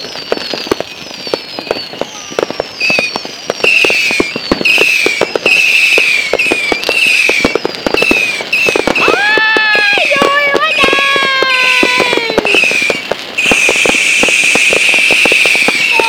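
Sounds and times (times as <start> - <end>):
fireworks crackling pops: 0.0 - 16.0
fireworks falling whistles: 0.0 - 16.0.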